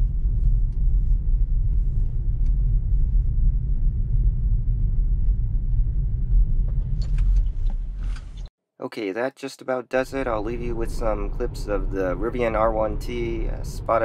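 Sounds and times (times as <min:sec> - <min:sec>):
road rumble inside car: 0:00.0 - 0:08.5, 0:10.0 - 0:14.0.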